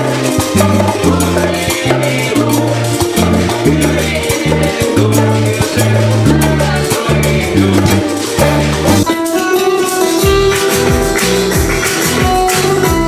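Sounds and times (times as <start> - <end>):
bass line: 0.0 - 9.1, 10.2 - 13.0
guitar: 0.0 - 13.0
hand drums: 0.0 - 13.0
shakers: 0.0 - 13.0.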